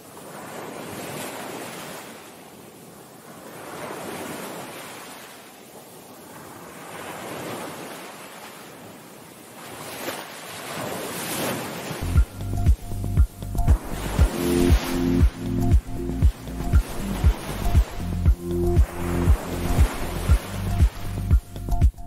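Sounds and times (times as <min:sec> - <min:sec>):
waves crashing on shore: 0:00.0 - 0:22.0.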